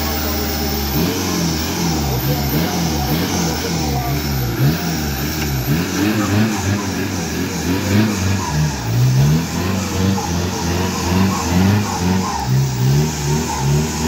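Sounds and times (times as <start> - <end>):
engine revving: 0.0 - 14.0.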